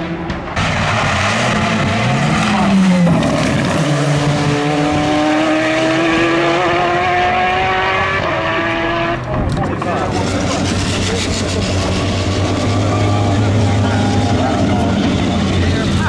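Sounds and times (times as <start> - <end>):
race car passing at full throttle: 0.0 - 16.0.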